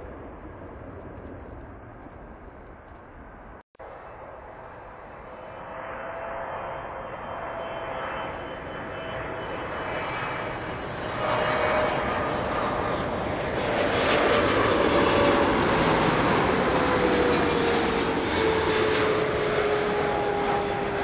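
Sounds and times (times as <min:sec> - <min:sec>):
jet engine noise with whine: 0:00.0 - 0:21.0.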